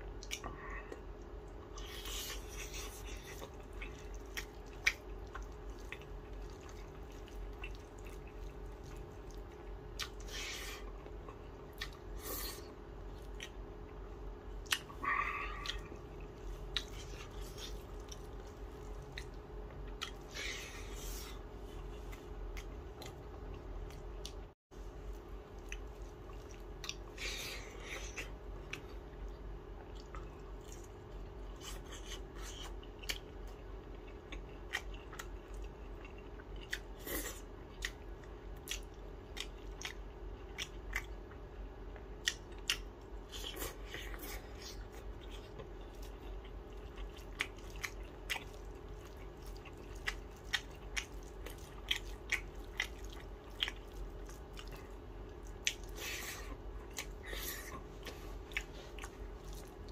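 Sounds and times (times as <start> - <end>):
low background hum: 0.0 - 59.9
person chewing: 0.0 - 59.9.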